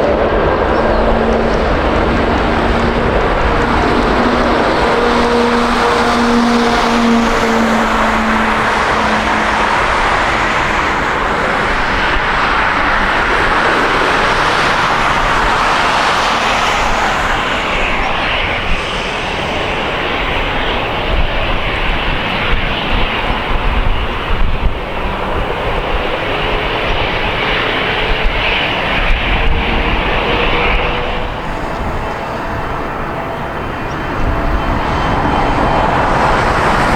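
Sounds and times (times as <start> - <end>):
jet engines roaring: 0.0 - 36.9.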